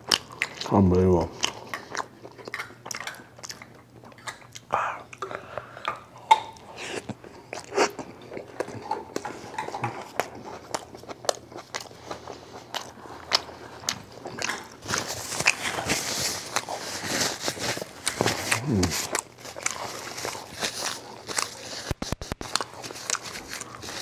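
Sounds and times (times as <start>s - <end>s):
man chewing a wrap: 0.0s - 24.0s.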